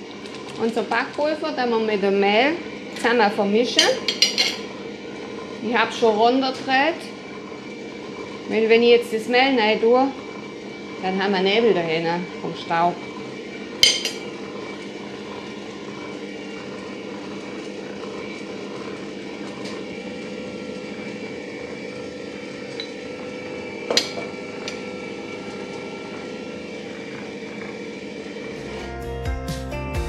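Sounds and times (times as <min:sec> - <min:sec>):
stand mixer motor humming: 0:00.0 - 0:29.1.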